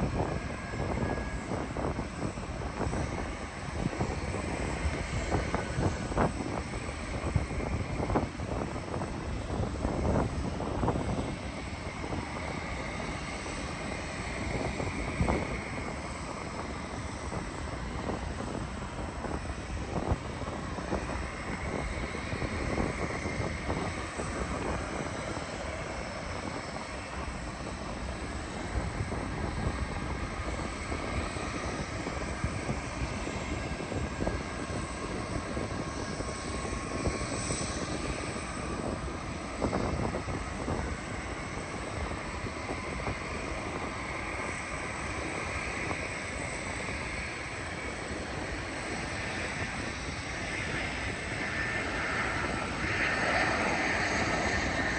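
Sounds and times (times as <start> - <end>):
high engine whine: 0.0 - 54.9
jet engines roaring: 0.0 - 54.9
wind buffeting microphone: 0.0 - 54.9.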